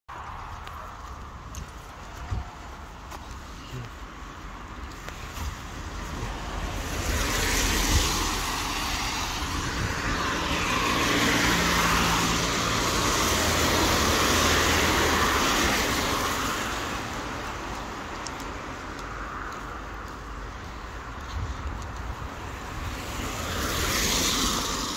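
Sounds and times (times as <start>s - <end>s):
cars passing on wet road: 0.1s - 24.9s.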